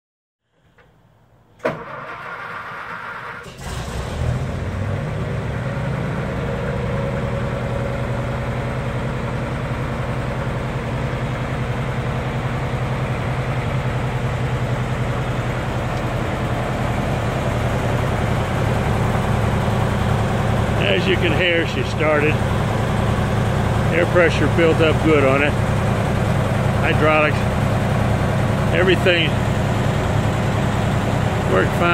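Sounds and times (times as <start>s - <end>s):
truck engine cranking and idling: 0.6s - 31.9s.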